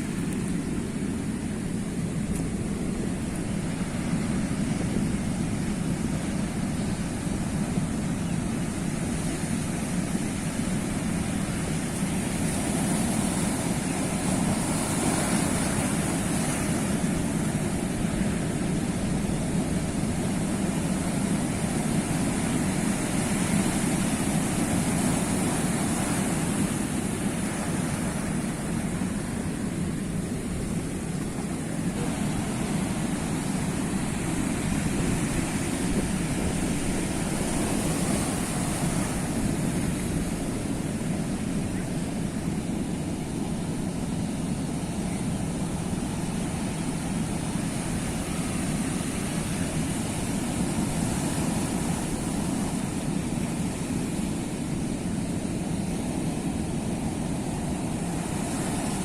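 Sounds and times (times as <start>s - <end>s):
sea waves washing on shore: 0.0s - 59.0s.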